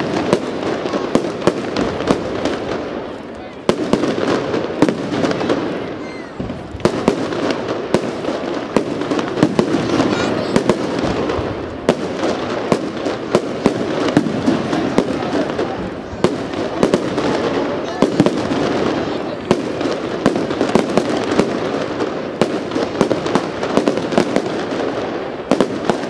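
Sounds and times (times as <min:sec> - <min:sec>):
fireworks bangs: 0:00.0 - 0:26.0
fireworks rumble and crackle: 0:00.0 - 0:26.0.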